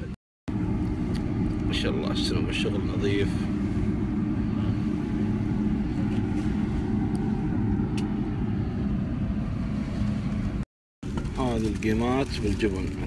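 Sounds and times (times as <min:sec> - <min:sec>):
low motor hum with rumble: 0:00.0 - 0:13.0.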